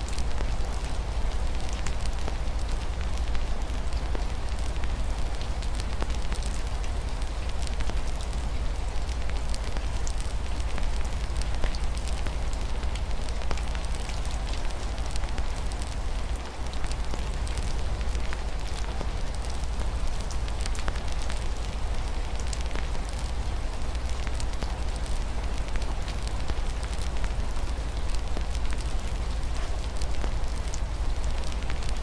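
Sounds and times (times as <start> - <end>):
rain hiss: 0.0 - 32.0
wood fire crackling and popping: 0.1 - 32.0.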